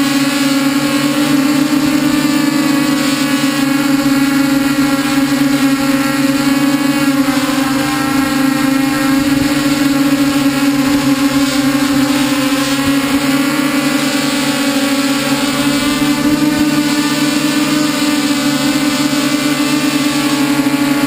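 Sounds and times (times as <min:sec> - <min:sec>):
drone motors humming: 0:00.0 - 0:21.0.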